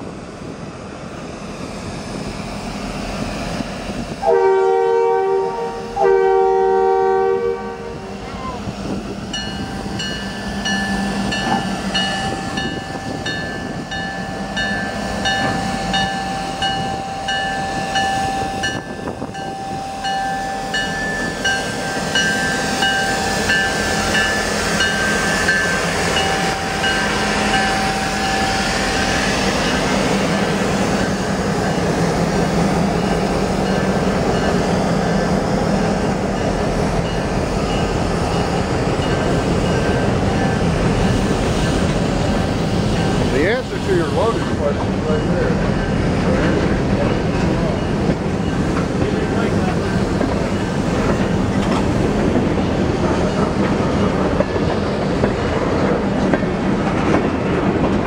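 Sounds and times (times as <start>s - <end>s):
diesel locomotive engines ringing: 0.0s - 58.0s.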